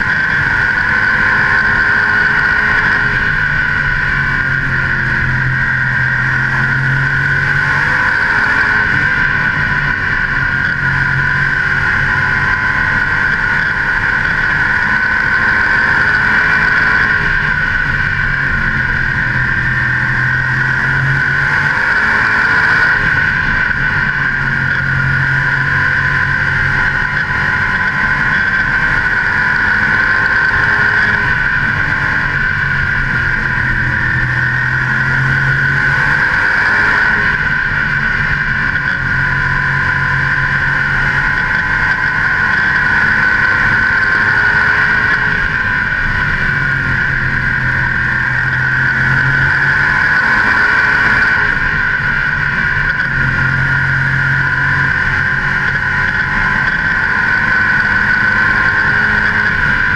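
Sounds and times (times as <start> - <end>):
racing car engine roaring: 0.0 - 59.9.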